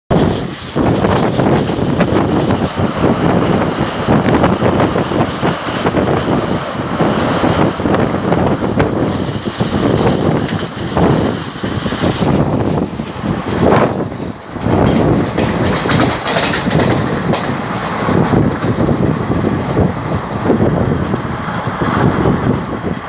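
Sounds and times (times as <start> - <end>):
train wheels rumbling on rails: 0.0 - 23.0
wind buffeting microphone: 0.1 - 23.0.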